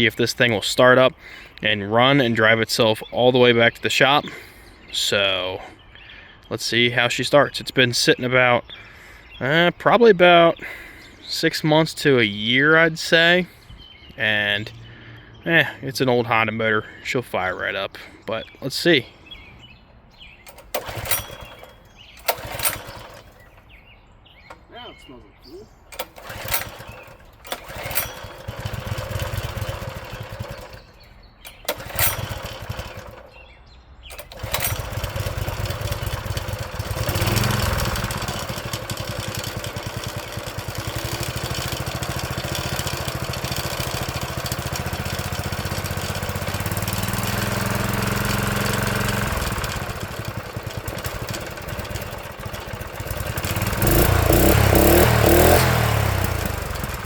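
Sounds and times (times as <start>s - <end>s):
tiller engine starting and running: 0.0s - 13.6s, 14.2s - 19.0s, 20.2s - 23.8s, 25.9s - 57.0s.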